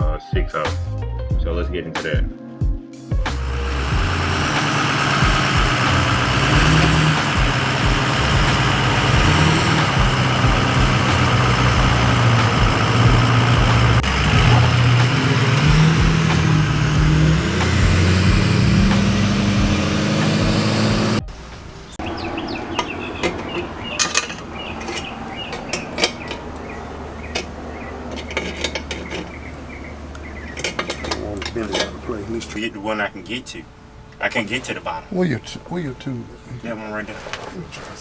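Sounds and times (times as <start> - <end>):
vehicle engine revving: 3.3 - 34.2.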